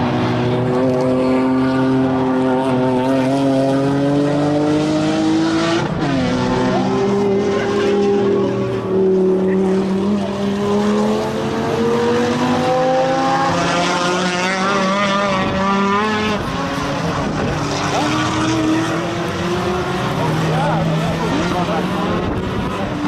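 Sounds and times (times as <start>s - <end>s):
race car engines running hard: 0.0s - 23.0s.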